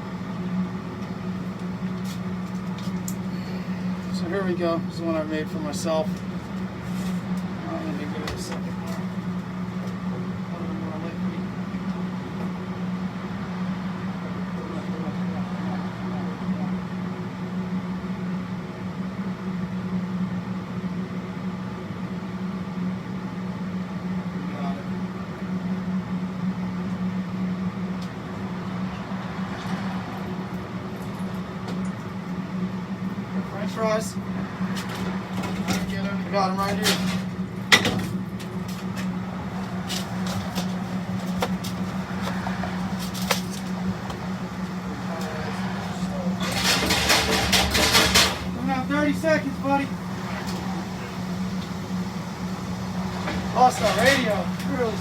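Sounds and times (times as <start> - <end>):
machinery humming: 0.0 - 55.0.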